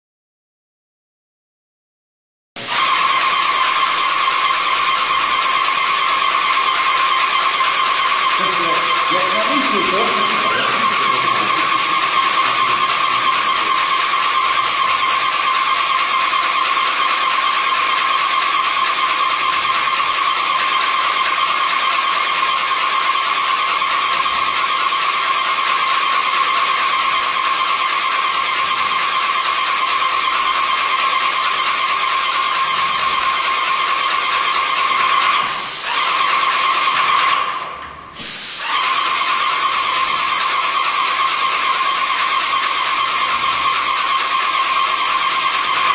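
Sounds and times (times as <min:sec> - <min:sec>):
spray gun hissing: 0:02.6 - 0:37.1, 0:38.2 - 0:45.8.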